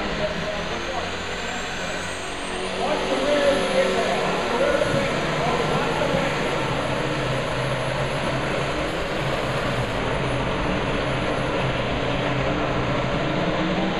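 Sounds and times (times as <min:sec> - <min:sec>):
tractor engine running hard: 0:00.0 - 0:13.9.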